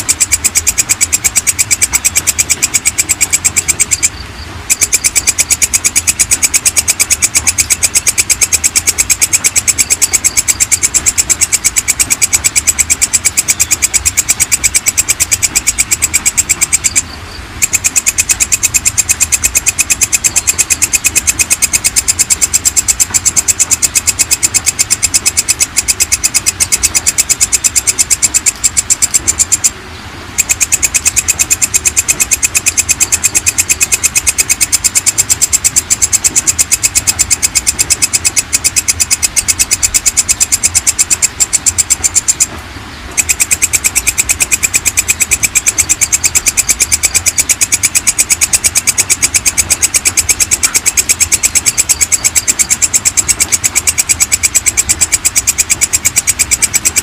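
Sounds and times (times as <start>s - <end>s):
katydid ticking call: 0.0s - 57.0s.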